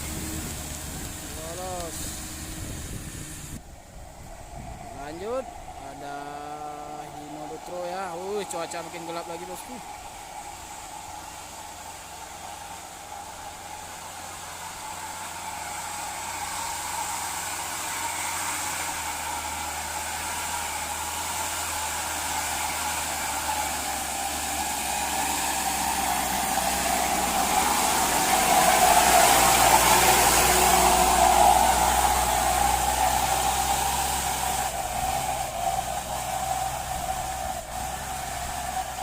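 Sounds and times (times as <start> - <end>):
diesel truck engine pulling uphill: 0.0 - 39.0.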